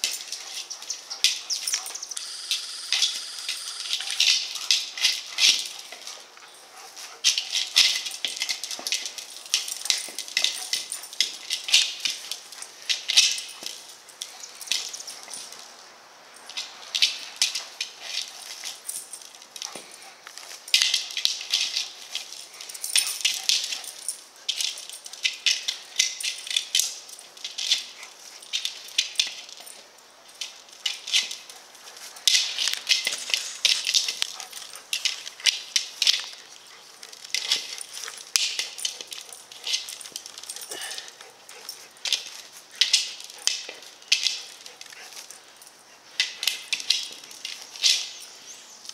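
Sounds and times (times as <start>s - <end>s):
dog scuffling with plastic ball: 3.4s - 15.8s, 16.4s - 45.5s.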